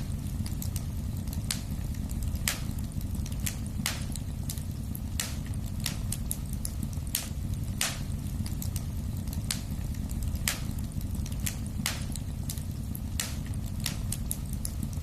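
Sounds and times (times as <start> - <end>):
fire popping and crackling: 0.0 - 15.0
low rumble of burning: 0.0 - 15.0.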